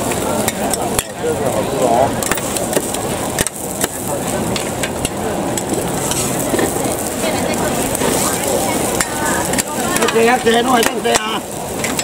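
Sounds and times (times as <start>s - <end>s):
food frying: 0.0s - 12.0s.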